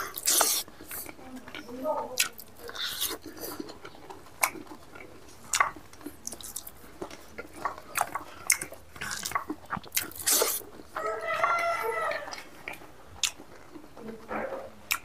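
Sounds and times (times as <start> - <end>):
man chewing with lip smacks: 0.0 - 15.0.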